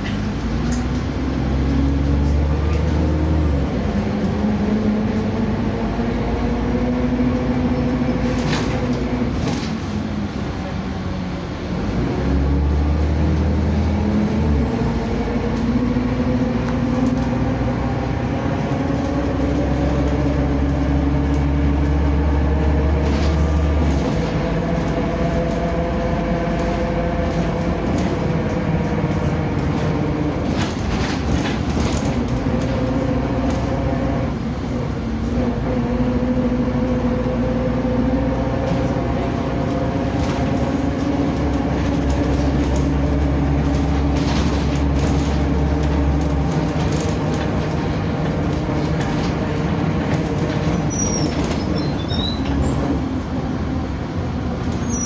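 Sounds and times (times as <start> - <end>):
bus engine accelerating: 0.0 - 55.0.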